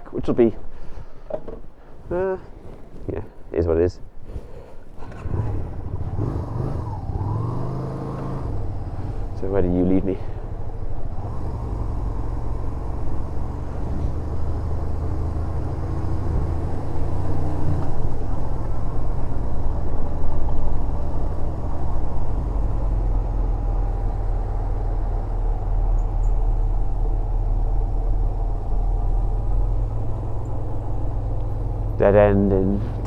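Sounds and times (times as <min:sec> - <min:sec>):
road and wind noise: 0:00.0 - 0:33.0
motorcycle engine running: 0:05.0 - 0:33.0.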